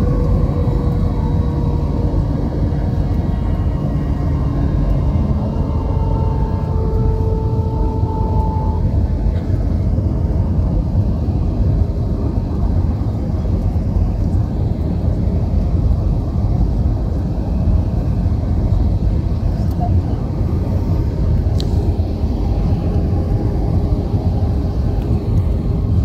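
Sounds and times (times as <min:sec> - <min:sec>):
aircraft engines roaring: 0:00.0 - 0:26.0
steady whine: 0:00.0 - 0:26.0.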